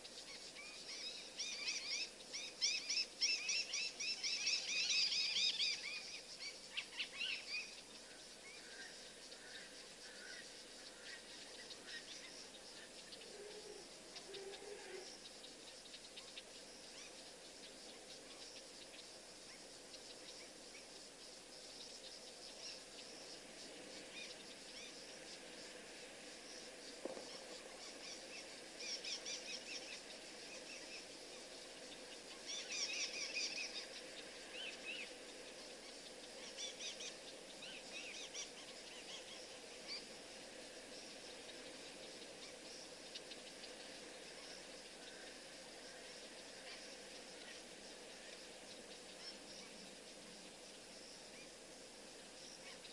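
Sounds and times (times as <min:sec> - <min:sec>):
faint high outdoor hiss: 0:00.0 - 0:52.9.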